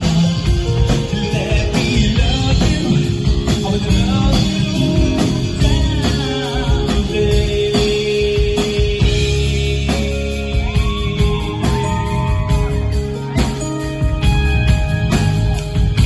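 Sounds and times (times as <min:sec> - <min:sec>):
rock-pop band playing: 0:00.0 - 0:16.0.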